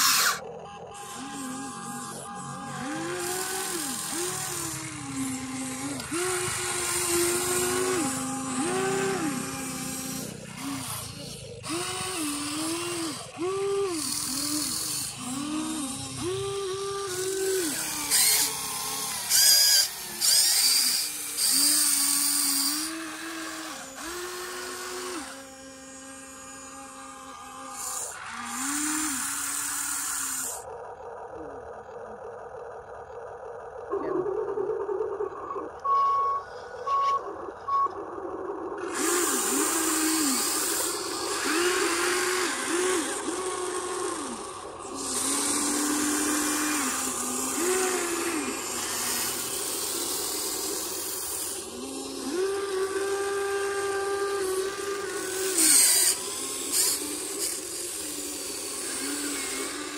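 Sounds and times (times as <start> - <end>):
electric gear motors whining: 0.0 - 59.9
low steady motor hum: 0.0 - 59.9.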